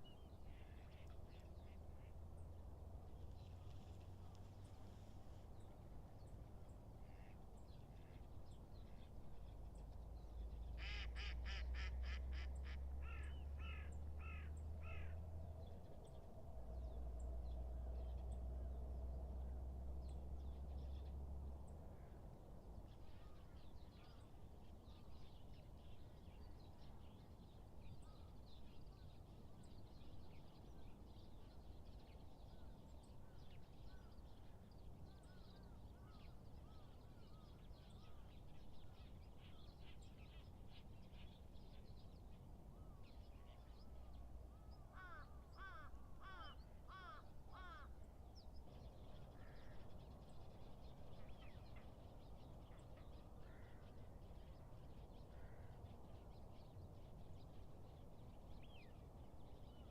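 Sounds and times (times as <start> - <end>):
wild birds chirping: 0.0 - 59.9.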